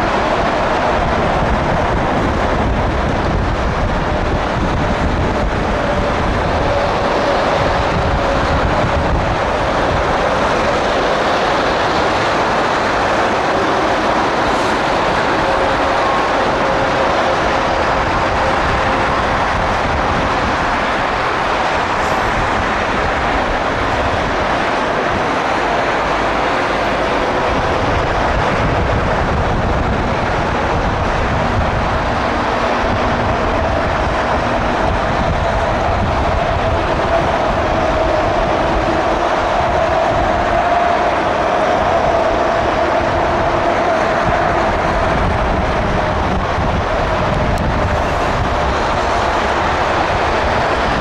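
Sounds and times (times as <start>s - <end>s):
faint jet engine whine: 0.0s - 51.0s
jet engines rushing: 0.0s - 51.0s.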